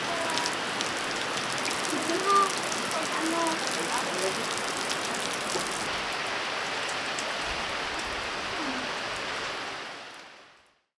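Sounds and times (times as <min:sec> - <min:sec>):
heavy rain falling: 0:00.0 - 0:10.6.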